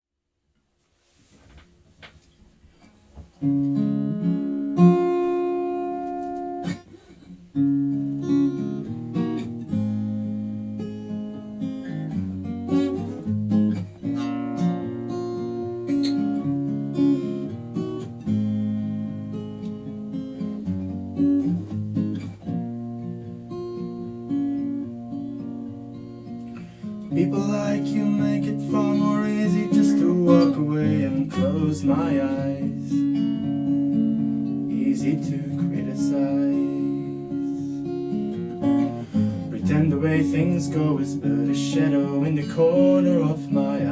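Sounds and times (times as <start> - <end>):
acoustic guitar playing chords: 1.6 - 43.9.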